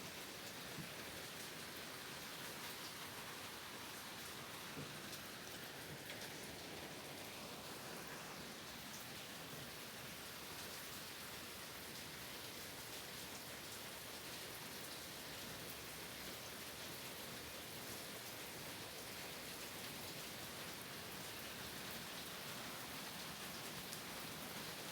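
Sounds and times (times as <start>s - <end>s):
rain on wooden cabin: 0.0s - 24.9s.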